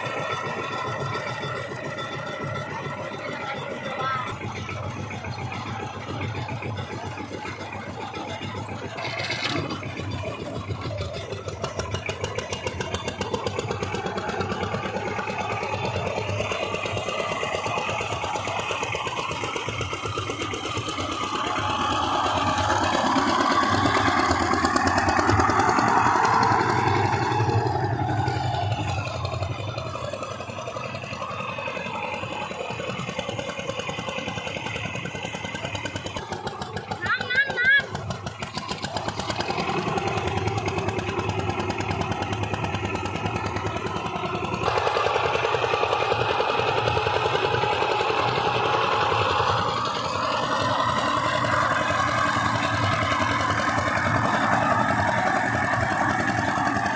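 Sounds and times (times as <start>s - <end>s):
power tiller engine running: 0.0s - 56.9s.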